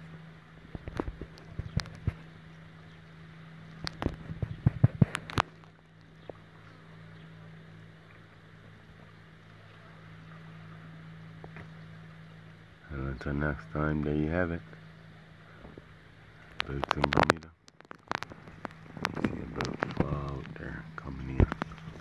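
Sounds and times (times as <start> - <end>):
motorboat engine humming: 0.0 - 22.0.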